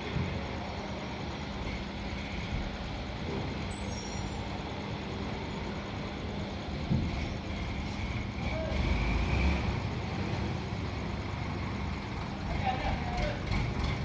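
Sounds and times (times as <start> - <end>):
crane engine rumbling: 0.0 - 14.0.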